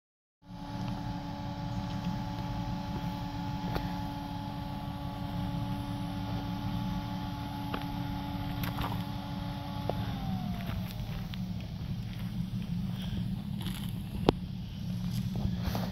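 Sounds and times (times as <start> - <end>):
engine rumbling: 0.4 - 15.9.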